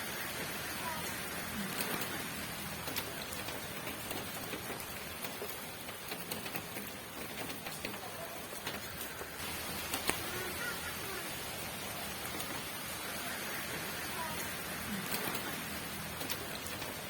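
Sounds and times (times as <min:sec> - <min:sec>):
rain hissing: 0:00.0 - 0:17.0
raindrop taps: 0:00.0 - 0:17.0.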